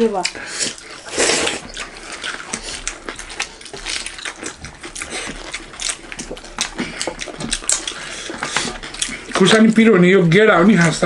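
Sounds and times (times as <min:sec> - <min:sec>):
fingers working food on metal plate: 0:00.0 - 0:11.0
wet chewing: 0:00.0 - 0:11.0
lip smacks: 0:00.1 - 0:09.6.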